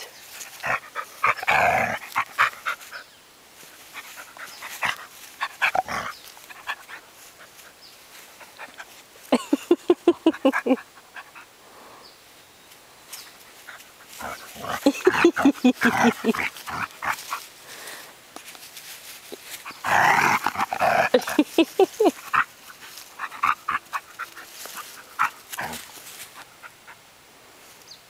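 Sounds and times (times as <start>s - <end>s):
dogs panting: 0.2s - 11.5s, 13.4s - 18.1s, 19.2s - 27.0s.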